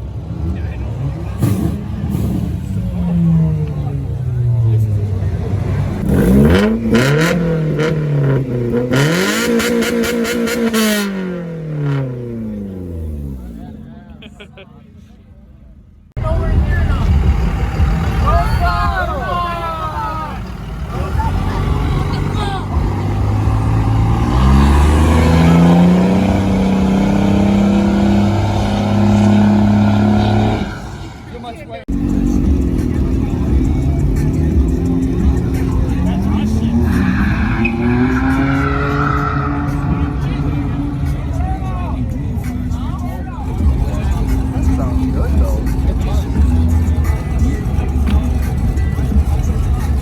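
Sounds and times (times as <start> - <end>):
vehicle engine revving: 0.0 - 13.9, 16.1 - 50.0.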